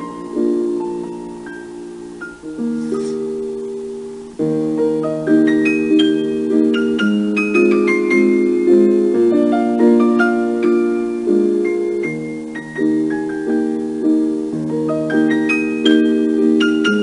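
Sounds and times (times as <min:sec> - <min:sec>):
instrumental keyboard music: 0:00.0 - 0:17.0.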